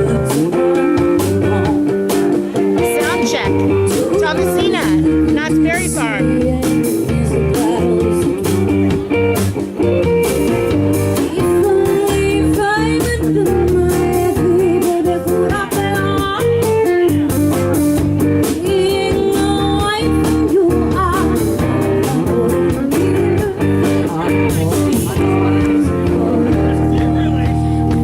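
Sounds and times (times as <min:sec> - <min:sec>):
electric guitar: 0:00.0 - 0:28.0
live blues band: 0:00.0 - 0:28.0.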